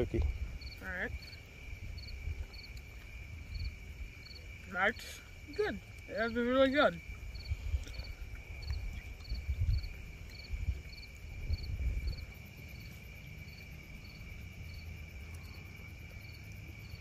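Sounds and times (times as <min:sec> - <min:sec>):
insect chirping: 0:00.0 - 0:17.0
steady high cricket trill: 0:00.0 - 0:17.0.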